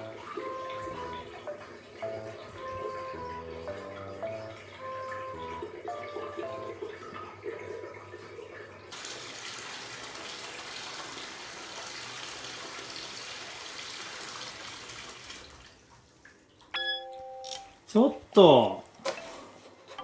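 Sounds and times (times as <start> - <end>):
water pouring into a bathtub: 0.0 - 16.7.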